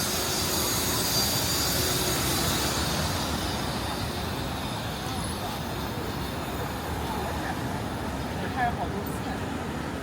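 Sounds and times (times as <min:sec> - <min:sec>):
vehicle passing with rushing hiss: 0:00.0 - 0:08.7.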